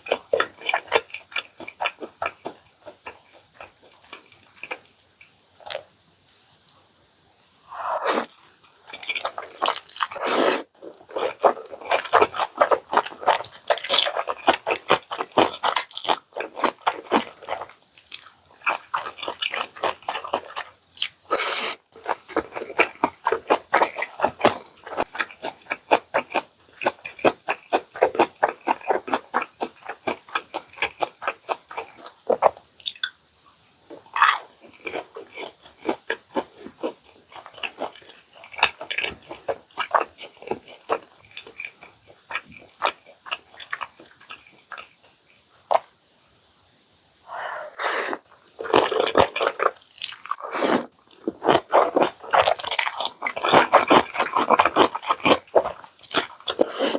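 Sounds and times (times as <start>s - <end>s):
close chewing clicks: 0.0s - 5.8s, 11.0s - 33.1s, 34.2s - 46.0s, 48.2s - 56.7s.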